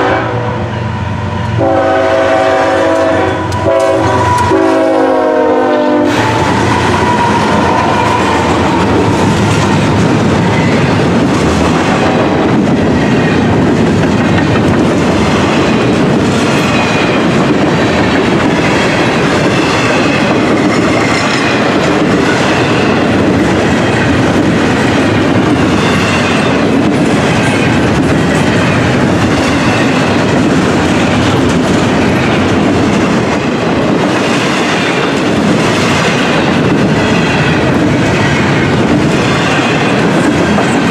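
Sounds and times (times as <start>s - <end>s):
steel wheels rumbling on rail: 0.0s - 40.9s
clickety-clack of train cars: 0.9s - 40.9s.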